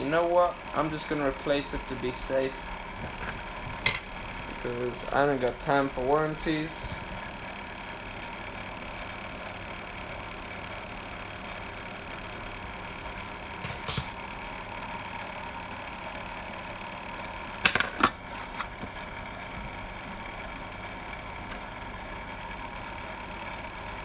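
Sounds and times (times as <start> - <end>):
fan hum and hiss: 0.0 - 24.0.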